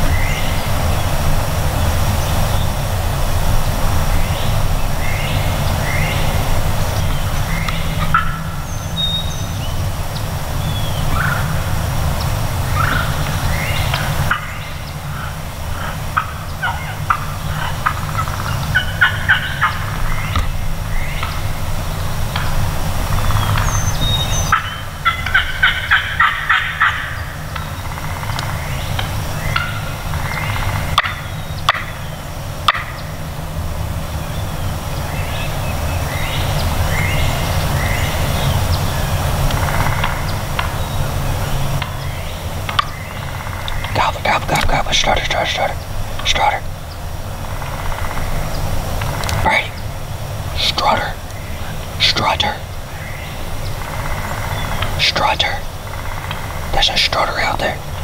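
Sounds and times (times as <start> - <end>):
turkey calling: 3.7 - 33.4, 34.4 - 58.0.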